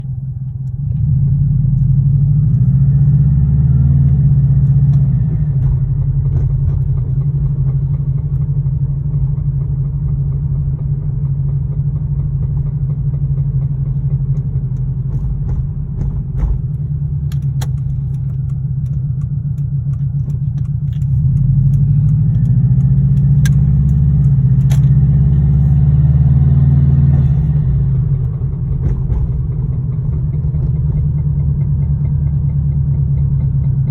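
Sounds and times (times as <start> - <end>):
car engine revving: 0.7 - 11.0, 12.2 - 33.9.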